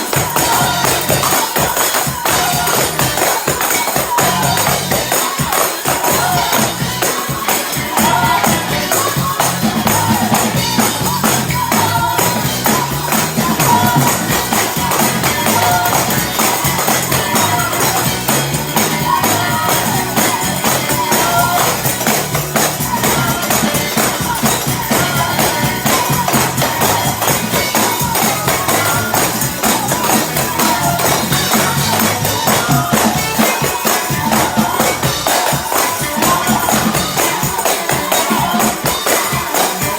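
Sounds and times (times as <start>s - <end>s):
driving bass and organ line: 0.0s - 39.9s
tambourines shaken fast: 0.0s - 39.9s.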